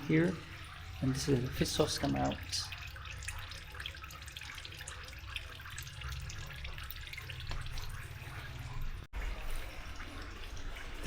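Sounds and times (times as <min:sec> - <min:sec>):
liquid trickling and dripping: 0:00.0 - 0:11.0.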